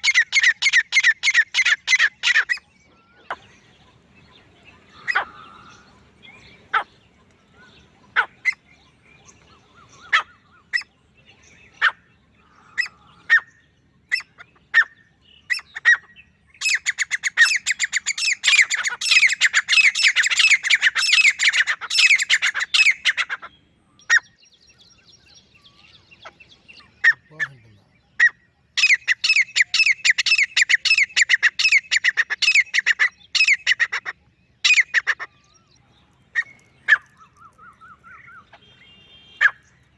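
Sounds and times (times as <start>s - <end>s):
francolin calling: 0.0s - 39.7s.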